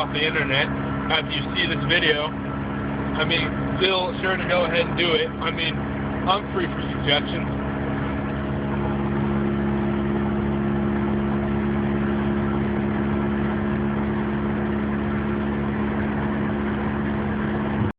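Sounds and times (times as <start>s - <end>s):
road noise: 0.0s - 17.9s
truck engine drone: 0.0s - 17.9s.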